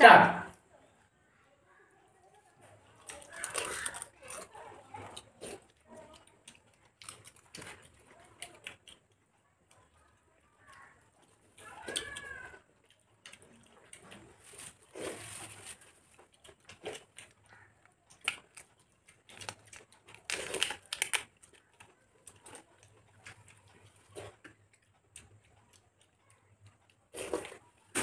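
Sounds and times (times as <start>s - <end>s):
chewing and crisp bites: 2.3s - 28.0s.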